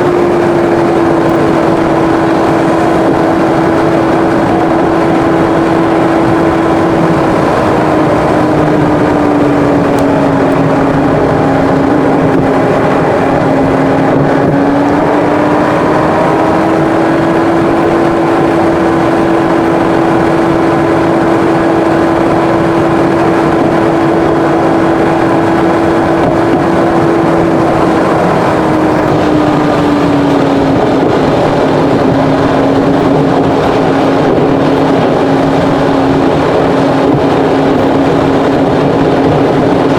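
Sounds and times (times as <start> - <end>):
car engine hum: 0.0 - 39.9
road and wind noise: 0.0 - 39.9.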